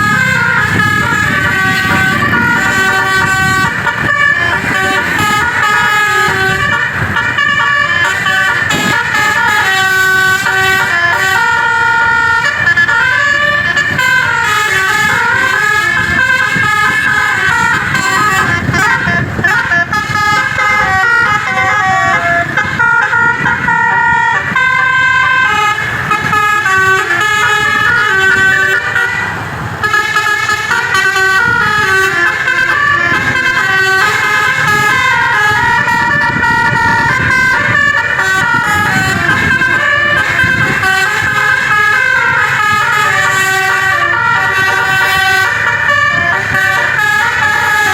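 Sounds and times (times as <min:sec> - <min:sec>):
musical bus air horn: 0:00.0 - 0:47.9.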